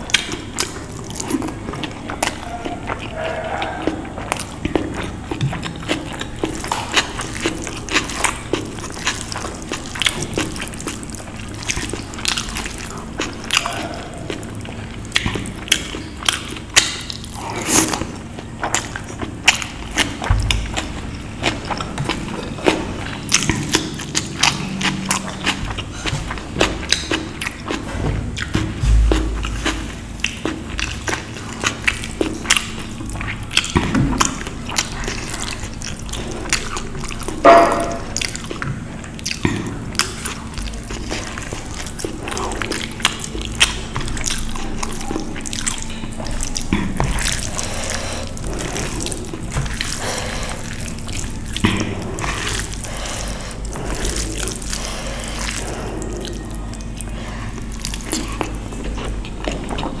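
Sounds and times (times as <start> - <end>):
chewing with lip smacks: 0.0 - 60.0
faint low hum: 0.0 - 60.0
food squelching mixed by hand: 0.0 - 60.0.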